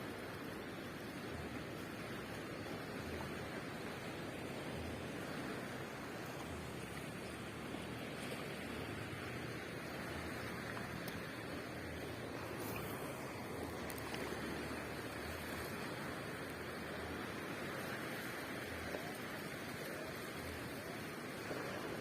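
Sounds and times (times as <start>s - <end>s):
ocean surf rushing: 0.0s - 22.0s.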